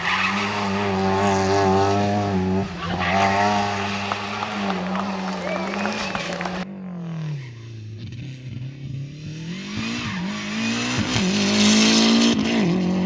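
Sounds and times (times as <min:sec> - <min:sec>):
rally car engine revving: 0:00.0 - 0:06.6, 0:08.0 - 0:13.0.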